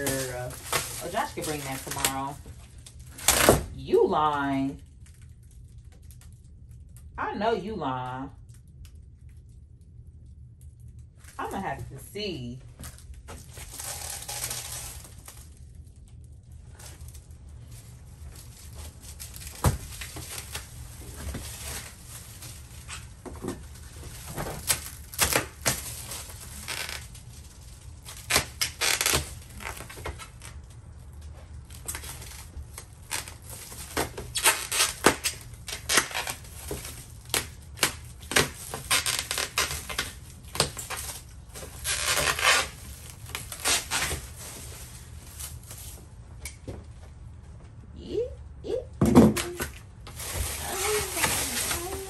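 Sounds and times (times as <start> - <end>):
plastic wrap crinkling: 0.0 - 3.6, 4.8 - 7.2, 12.7 - 46.7, 49.4 - 52.0.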